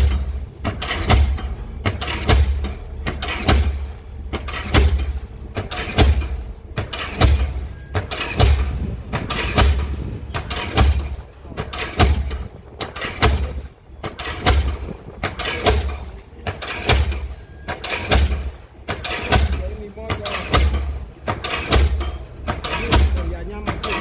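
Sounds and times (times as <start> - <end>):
pile hammer blows: 0.0 - 24.0.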